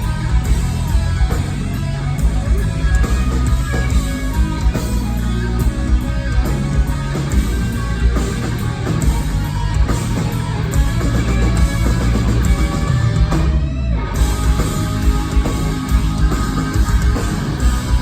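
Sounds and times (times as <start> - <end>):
bass: 0.0 - 18.0
distorted electric guitars: 0.0 - 18.0
drums: 0.0 - 18.0.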